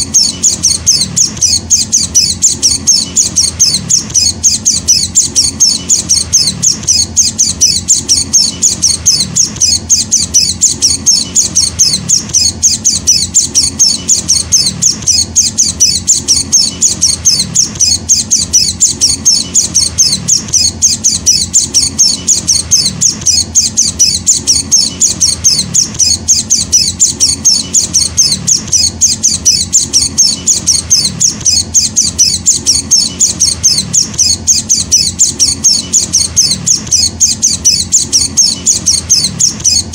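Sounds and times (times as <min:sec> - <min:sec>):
bird chick chirping: 0:00.0 - 0:39.9.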